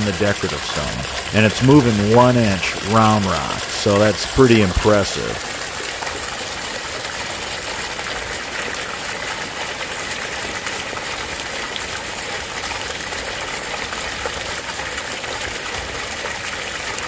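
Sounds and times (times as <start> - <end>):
water gushing onto rocks: 0.0 - 17.0.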